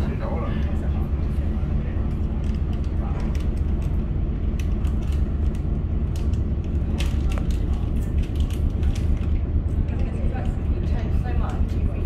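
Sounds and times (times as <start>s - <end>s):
ferry engine droning: 0.0s - 12.0s.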